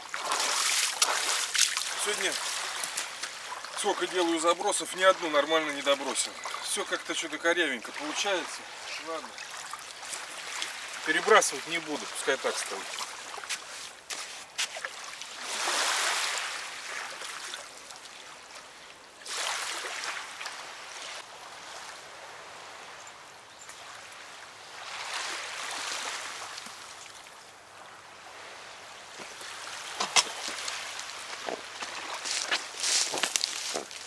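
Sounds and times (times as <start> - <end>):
river waves washing onto sand: 0.0 - 34.0.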